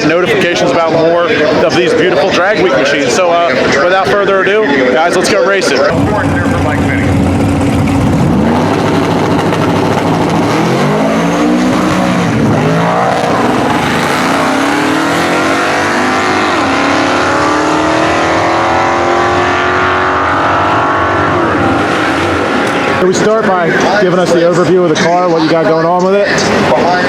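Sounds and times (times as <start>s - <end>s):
drag car engine revving: 0.0s - 27.0s.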